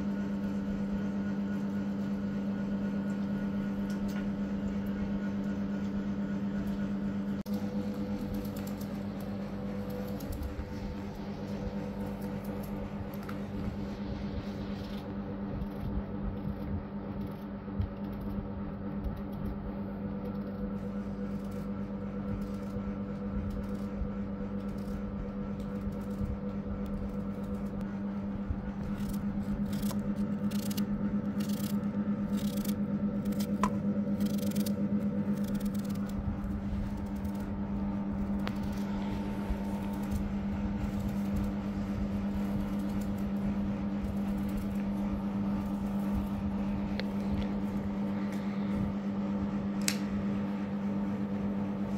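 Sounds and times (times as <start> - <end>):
appliance electrical hum: 0.0 - 51.9.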